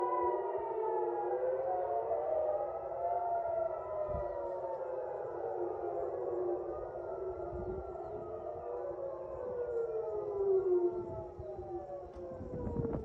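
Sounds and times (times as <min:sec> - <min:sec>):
air-raid sirens wailing: 0:00.0 - 0:13.0.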